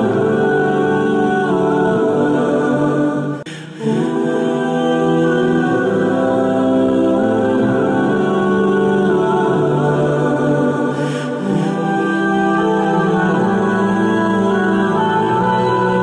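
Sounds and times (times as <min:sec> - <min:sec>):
slow background music: 0:00.0 - 0:16.0.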